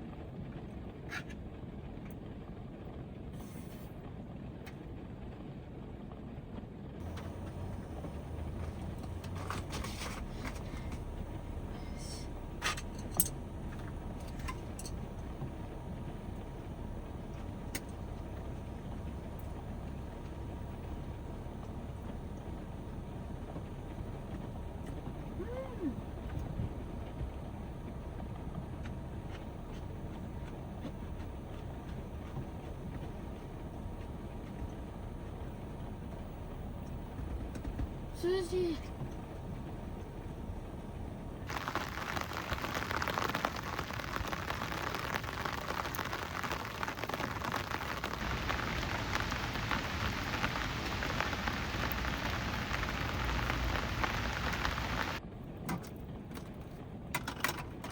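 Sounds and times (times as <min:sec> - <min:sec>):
heavy rain drumming on roof: 0:06.8 - 0:55.7.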